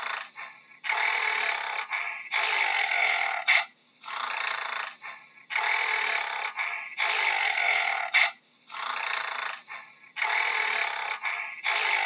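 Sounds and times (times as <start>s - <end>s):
gorilla breathy vocalizing: 0.0s - 12.0s.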